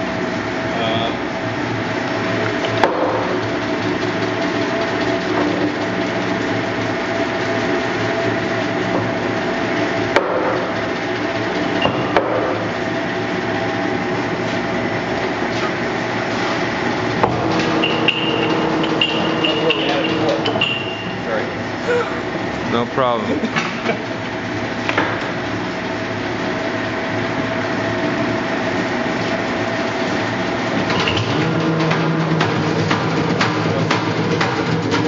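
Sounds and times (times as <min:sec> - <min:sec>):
lathe running: 0:00.0 - 0:35.0.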